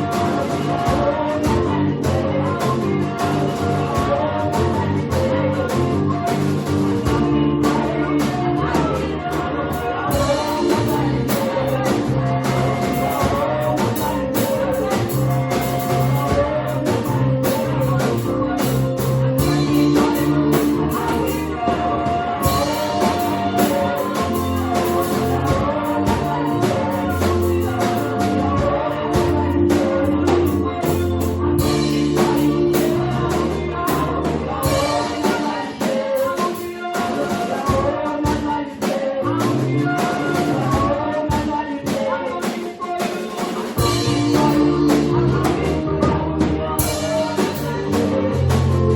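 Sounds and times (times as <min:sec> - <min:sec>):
choir singing: 0:00.0 - 0:48.9
live band playing a beat: 0:00.0 - 0:48.9.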